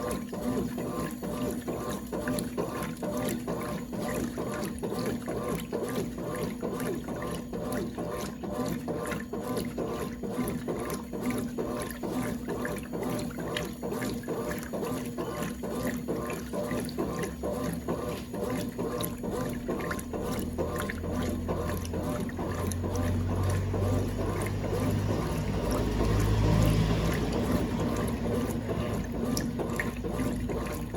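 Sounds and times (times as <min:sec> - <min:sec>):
washing machine sloshing water: 0:00.0 - 0:30.9.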